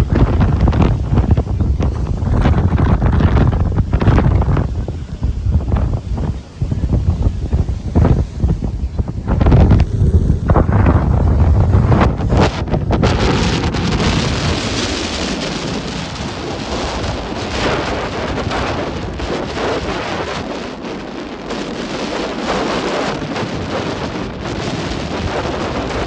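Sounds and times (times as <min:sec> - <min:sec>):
rough surf breaking: 0:00.0 - 0:26.0
wind rumble on microphone: 0:00.0 - 0:26.0.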